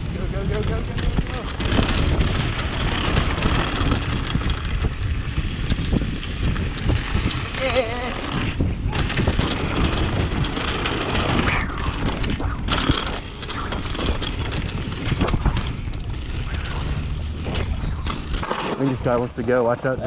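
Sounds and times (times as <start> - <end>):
bike clacking and rattling: 0.0 - 20.0
bike tyre noise on dirt: 0.0 - 20.0
wind rushing on microphone: 0.0 - 20.0.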